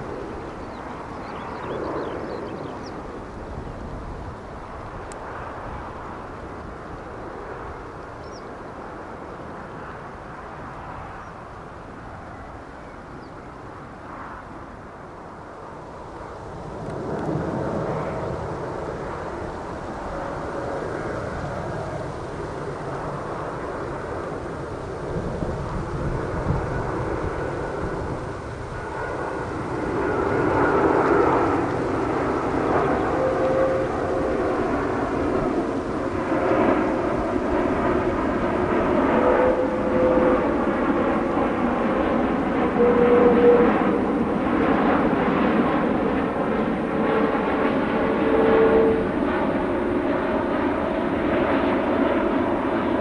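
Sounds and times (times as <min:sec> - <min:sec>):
distant jet engines: 0:00.0 - 0:53.0.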